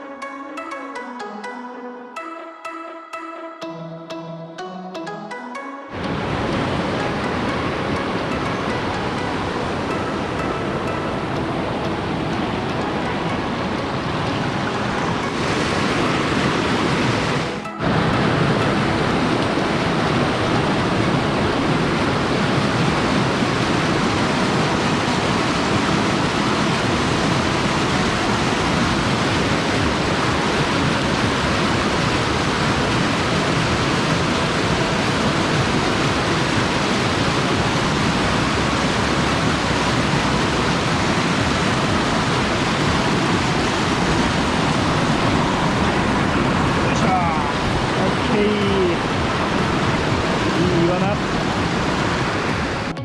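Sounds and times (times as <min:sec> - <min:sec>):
mountain stream flowing: 0:05.9 - 0:53.0.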